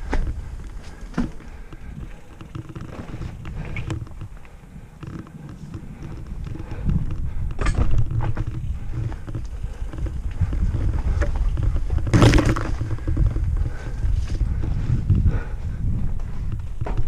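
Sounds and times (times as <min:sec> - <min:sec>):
bike rattling over bumps: 0:00.0 - 0:17.0
wind and tyres rumbling: 0:00.0 - 0:17.0.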